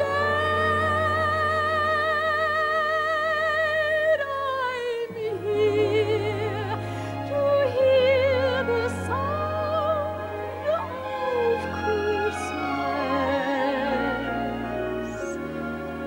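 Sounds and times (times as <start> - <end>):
orchestral accompaniment: 0.0 - 2.6, 5.1 - 16.0
soprano singing with vibrato: 0.0 - 16.0.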